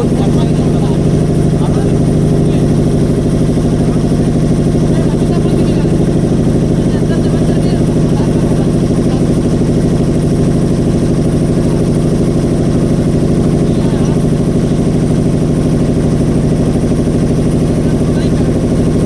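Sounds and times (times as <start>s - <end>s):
motorboat engine droning: 0.0s - 19.0s.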